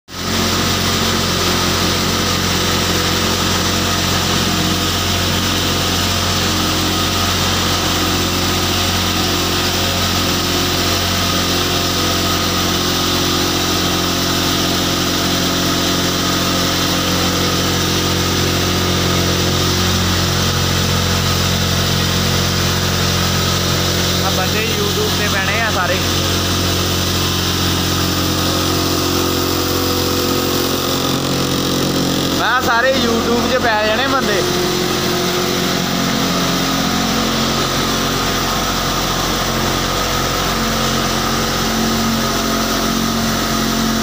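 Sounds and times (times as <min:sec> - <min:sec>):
grinder machine humming and whirring: 0:00.1 - 0:44.0.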